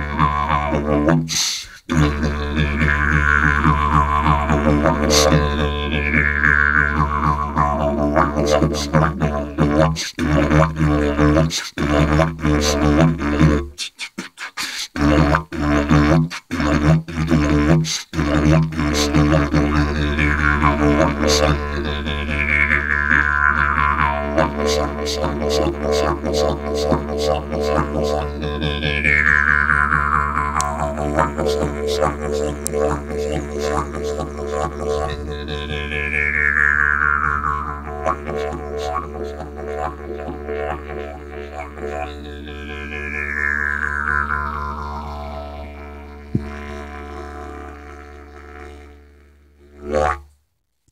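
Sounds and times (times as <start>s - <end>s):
didgeridoo drone: 0.0s - 1.3s, 1.9s - 13.7s, 15.0s - 50.2s.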